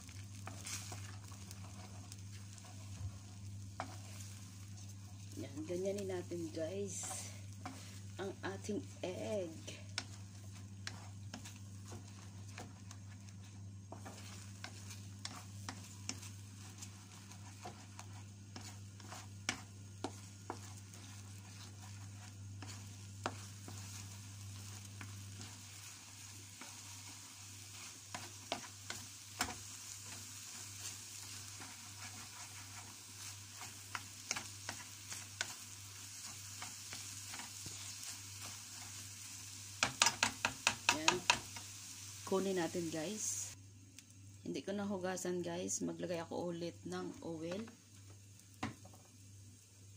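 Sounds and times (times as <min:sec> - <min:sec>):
steady low hum: 0:00.0 - 0:48.6
eggs sizzling in frying pan: 0:00.0 - 0:49.9
spatula scraping and tapping pan: 0:00.1 - 0:39.1, 0:39.7 - 0:41.7, 0:47.5 - 0:49.2.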